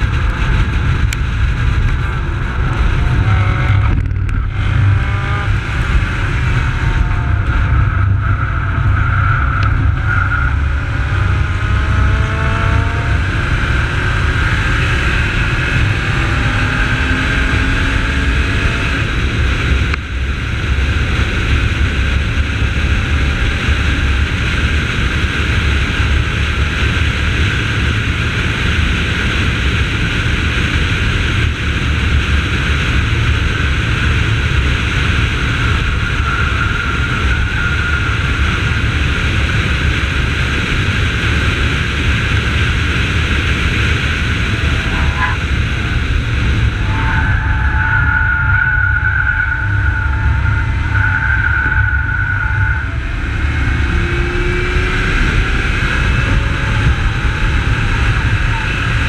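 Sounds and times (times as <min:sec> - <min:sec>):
car engine pulling hard: 0:00.0 - 0:59.0
wind rumble: 0:00.0 - 0:59.0.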